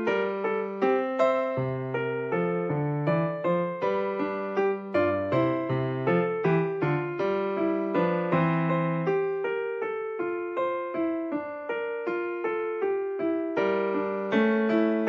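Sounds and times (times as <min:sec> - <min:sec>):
piano-like keyboard music: 0:00.0 - 0:15.0.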